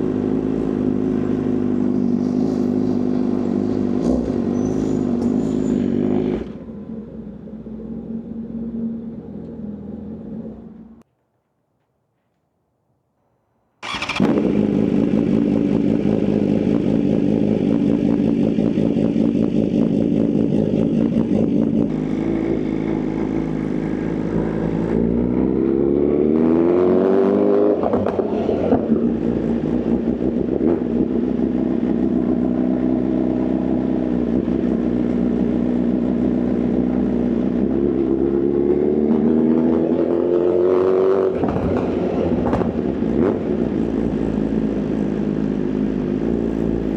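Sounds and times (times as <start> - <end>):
motorcycle engine accelerating: 0.0 - 11.0, 13.8 - 46.9.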